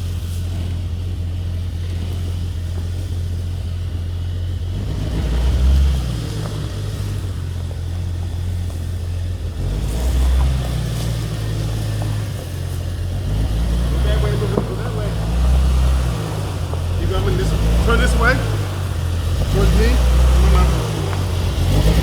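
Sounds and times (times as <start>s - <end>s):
vehicle engine at low revs: 0.0s - 22.0s.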